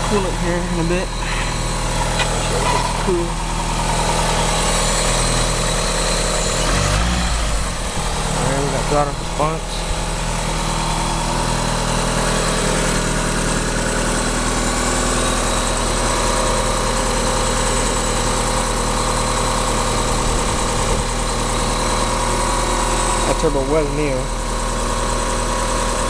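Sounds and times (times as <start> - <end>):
turbocharged car engine idling: 0.0 - 26.0.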